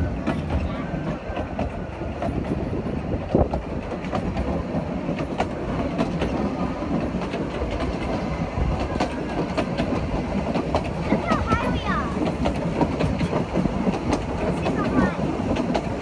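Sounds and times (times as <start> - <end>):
train carriage rumble: 0.0 - 16.0
wheels clicking over rail joints: 0.0 - 16.0.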